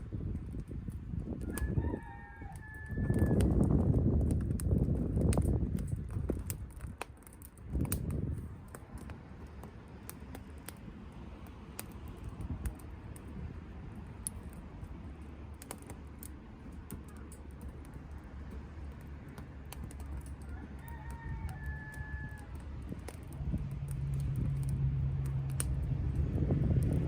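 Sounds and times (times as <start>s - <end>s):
low rumble of fire: 0.0s - 27.0s
wood fire crackling and popping: 0.0s - 27.0s.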